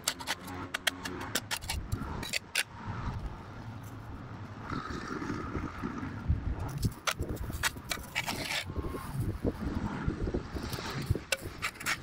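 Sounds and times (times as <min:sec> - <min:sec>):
wind rumbling on microphone: 0:01.2 - 0:12.0.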